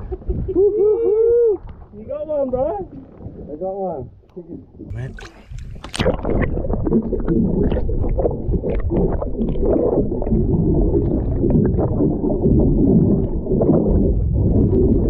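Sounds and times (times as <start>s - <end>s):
underwater rumble and gurgle: 0.0s - 15.0s.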